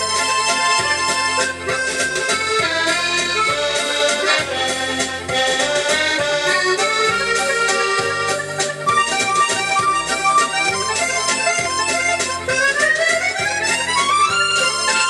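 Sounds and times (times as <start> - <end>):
waltz on electronic keyboard: 0.0 - 15.0.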